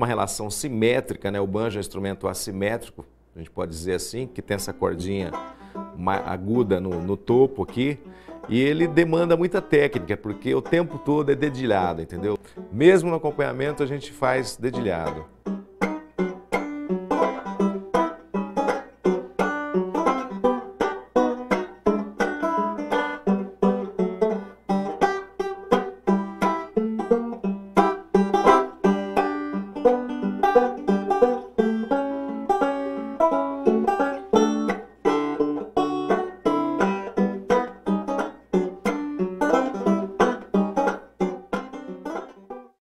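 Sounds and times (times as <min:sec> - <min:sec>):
fingerpicked banjo: 0:00.0 - 0:42.8.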